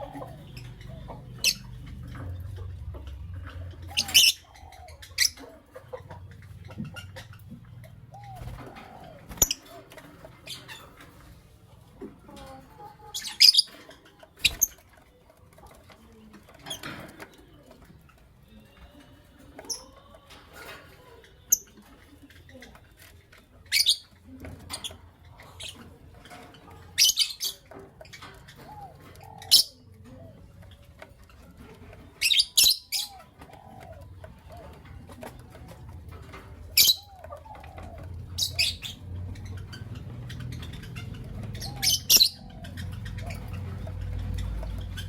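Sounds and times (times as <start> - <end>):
lovebirds chirping: 0.0 - 45.0.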